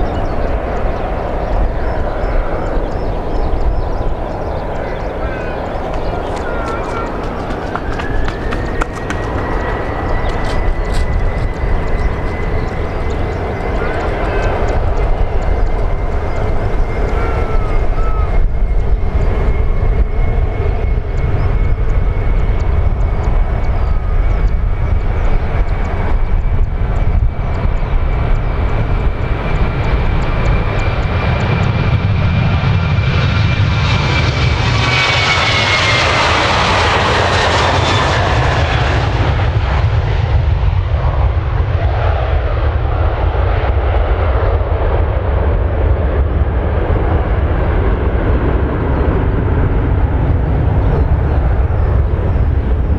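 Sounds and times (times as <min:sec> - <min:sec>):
jet airliner taking off: 0:00.0 - 0:52.9.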